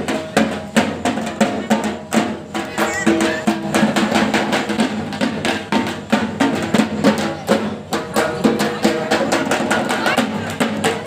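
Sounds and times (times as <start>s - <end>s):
loud drumming: 0.0s - 11.0s
pitched musical backing: 0.0s - 11.0s.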